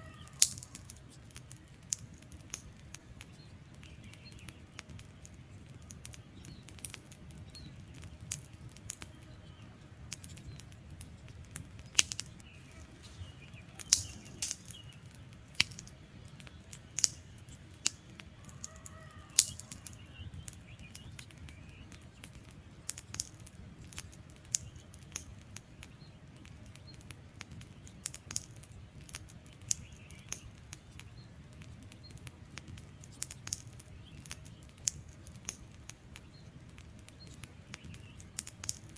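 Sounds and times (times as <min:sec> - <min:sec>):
campfire crackling and popping: 0:00.0 - 0:38.9
faint bird chirps: 0:00.0 - 0:38.9
low rumble of flames: 0:00.0 - 0:38.9.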